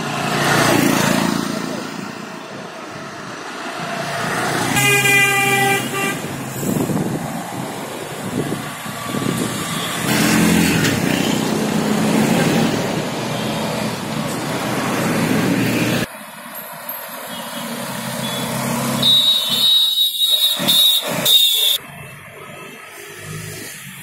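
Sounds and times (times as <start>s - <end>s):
traffic passing close by: 0.0s - 24.0s.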